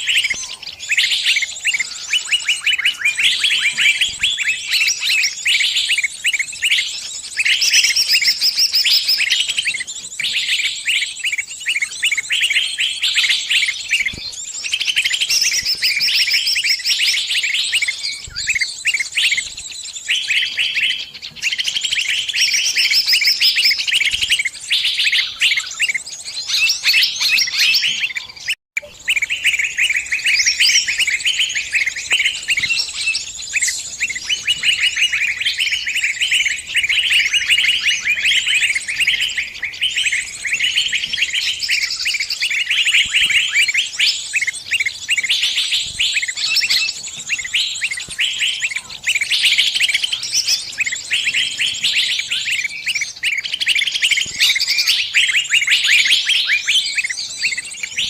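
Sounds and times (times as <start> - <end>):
small birds chirping rapidly: 0.0 - 58.0.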